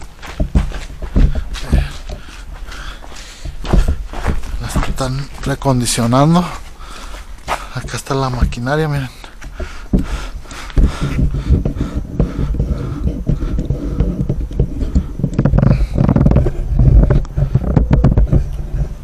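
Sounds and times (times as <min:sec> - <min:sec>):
machinery engine rumble: 0:00.0 - 0:19.0
sharp knocks and scrapes: 0:00.0 - 0:19.0.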